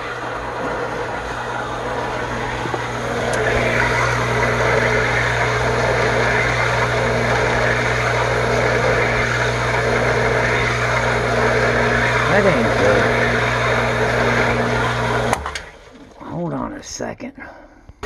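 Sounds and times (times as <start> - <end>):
electric pump motor humming: 0.0 - 16.3
water rushing through pipes: 0.0 - 16.4.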